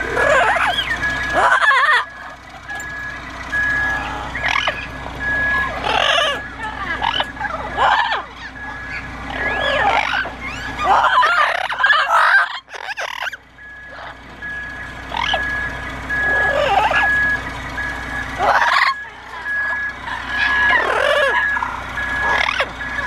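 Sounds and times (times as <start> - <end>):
parrots squawking and chattering: 0.0 - 2.9, 3.5 - 14.4, 15.0 - 22.8.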